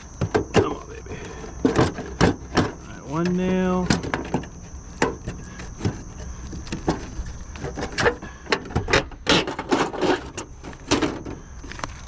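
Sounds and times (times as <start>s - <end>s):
prying at roofing nails: 0.0s - 11.9s.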